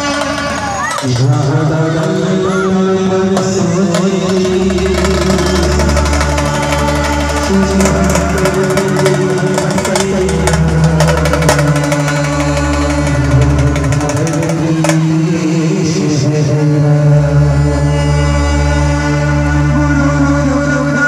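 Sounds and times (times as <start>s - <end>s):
drums: 0.0s - 19.3s
saxophone melody over loudspeakers: 0.0s - 21.0s
sustained low notes: 0.0s - 21.0s.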